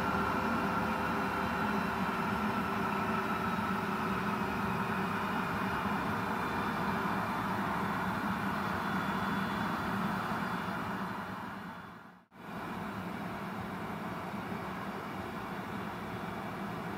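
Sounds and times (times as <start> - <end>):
jet engines idling: 0.0 - 16.9.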